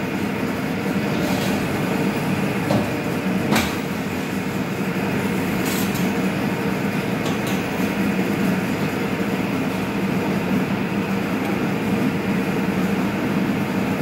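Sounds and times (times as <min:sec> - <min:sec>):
pipe bending machine humming: 0:00.0 - 0:14.0.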